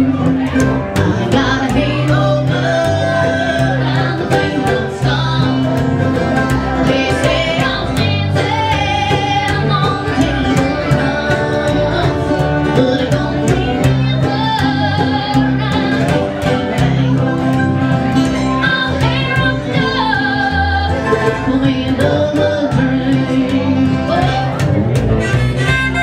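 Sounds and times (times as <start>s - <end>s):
woman singing: 0.0s - 6.0s, 6.8s - 24.7s
acoustic guitar: 0.0s - 26.0s
banjo: 0.0s - 26.0s
upright bass: 0.0s - 26.0s.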